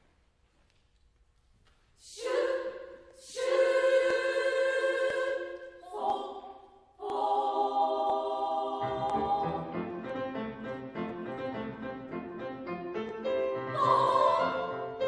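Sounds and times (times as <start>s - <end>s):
women's choir singing chords: 2.0s - 12.3s, 13.2s - 15.0s.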